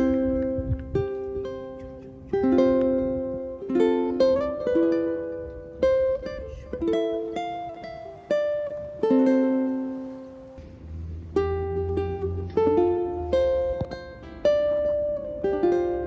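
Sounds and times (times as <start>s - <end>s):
ukulele plucked melody: 0.0s - 16.0s.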